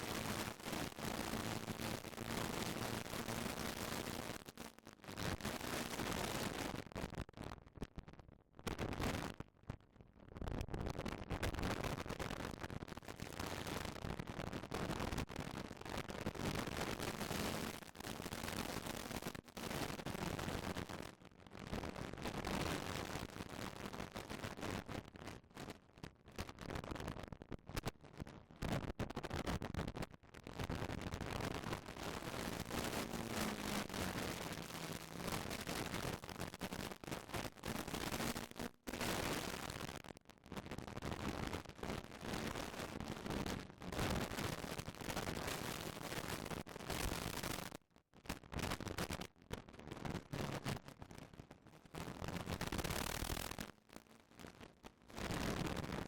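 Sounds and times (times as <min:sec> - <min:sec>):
crackling wind noise: 0:00.0 - 0:56.0.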